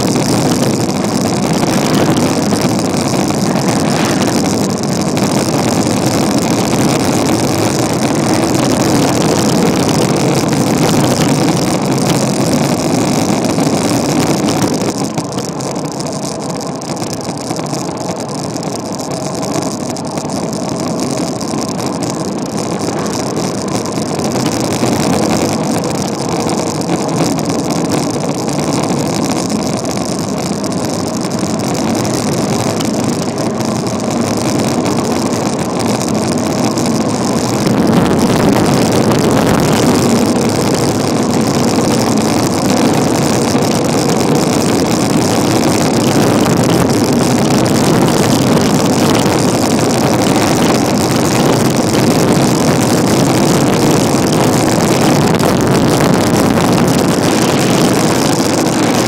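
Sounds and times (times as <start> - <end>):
wind roar on microphone: 0.0 - 59.0.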